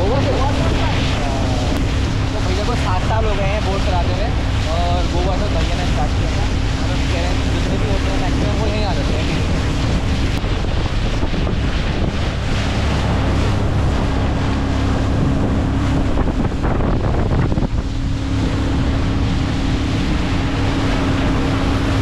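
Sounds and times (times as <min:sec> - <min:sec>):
speedboat engine drone: 0:00.0 - 0:22.0
wind buffeting microphone: 0:00.0 - 0:22.0.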